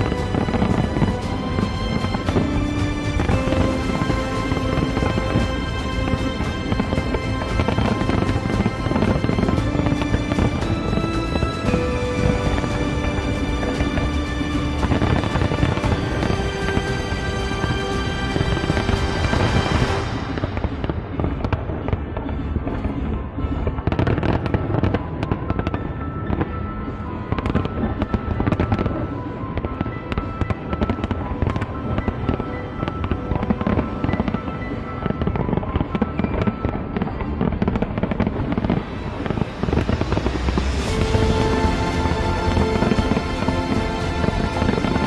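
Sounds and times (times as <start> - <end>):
fireworks bangs and crackles: 0.0 - 45.0
music playing: 0.0 - 45.0.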